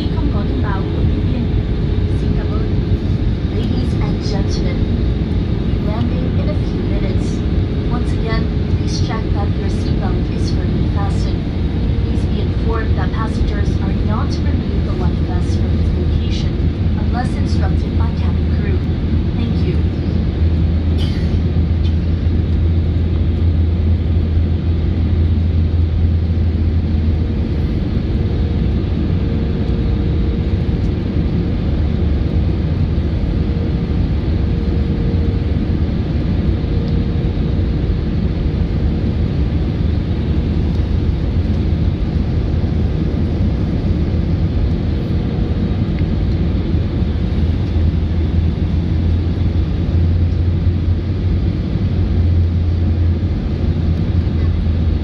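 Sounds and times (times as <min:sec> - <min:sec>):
jet engines and airflow rumble: 0:00.0 - 0:55.0.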